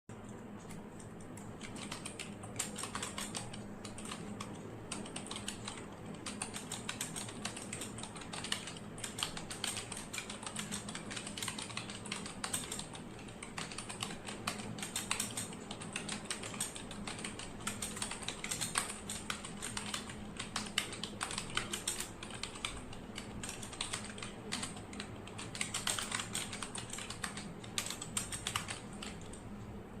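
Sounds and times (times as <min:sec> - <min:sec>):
typing on computer keyboard: 0:00.1 - 0:29.6
faint steady hum: 0:00.1 - 0:30.0.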